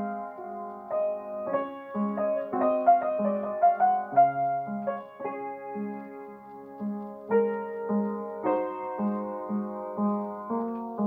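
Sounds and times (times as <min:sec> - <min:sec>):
slow quiet piano melody: 0:00.0 - 0:11.0.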